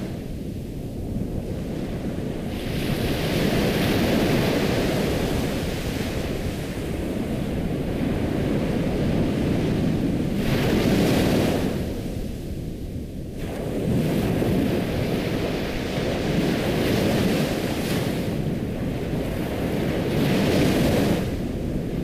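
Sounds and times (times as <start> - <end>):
low rumble of sea: 0.0 - 22.0.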